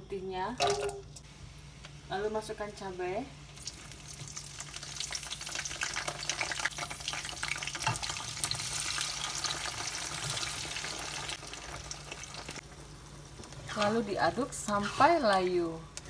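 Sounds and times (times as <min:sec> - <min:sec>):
sizzling in hot oil with pops: 0:00.6 - 0:02.8, 0:03.4 - 0:16.0.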